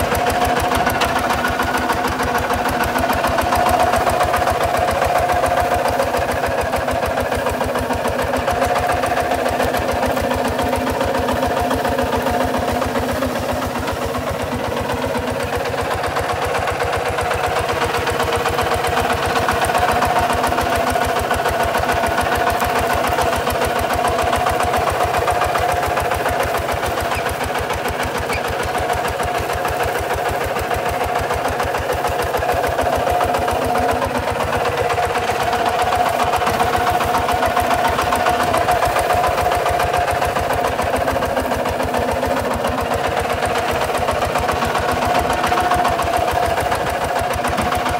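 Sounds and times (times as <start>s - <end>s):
diesel tractor engine chugging: 0.0s - 47.9s.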